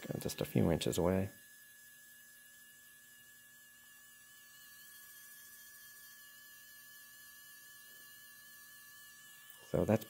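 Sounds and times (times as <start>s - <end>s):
small motor humming with whine: 0.0s - 10.0s.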